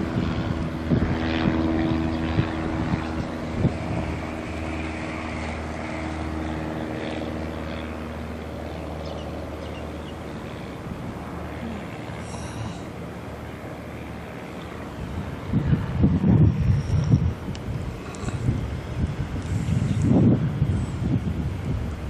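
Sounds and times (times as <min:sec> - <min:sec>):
propeller airplane engine: 0:00.0 - 0:22.0.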